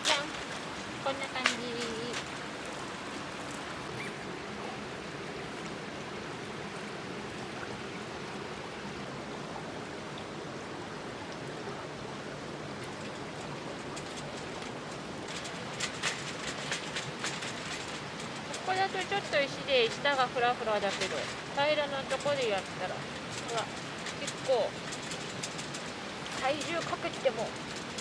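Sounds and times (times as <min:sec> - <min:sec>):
steady rushing water-like noise: 0:00.0 - 0:28.0.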